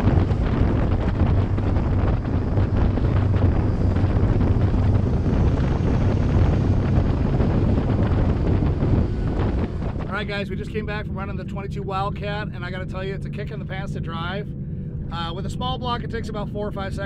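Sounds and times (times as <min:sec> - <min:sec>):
boat engine droning: 0:00.0 - 0:17.0
wind rushing over microphone: 0:00.0 - 0:17.0.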